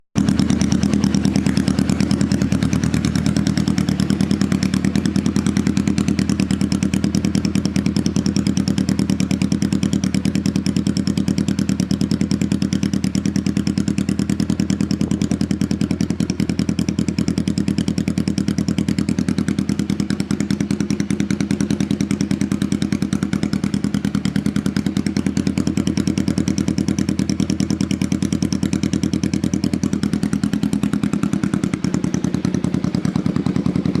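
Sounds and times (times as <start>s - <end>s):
motorcycle engine running: 0.1s - 34.0s.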